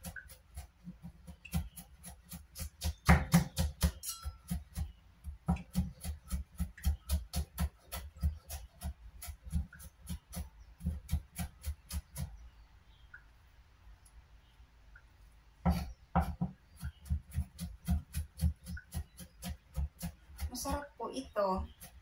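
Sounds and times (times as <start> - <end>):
knife chopping on wooden board: 0.0 - 12.3, 15.6 - 20.9, 21.6 - 22.0.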